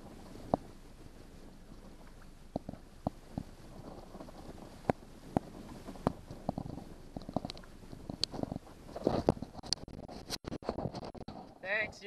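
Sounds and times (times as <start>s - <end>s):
low rumble: 0.0s - 10.3s
light knocks and thumps on boat: 0.0s - 12.0s.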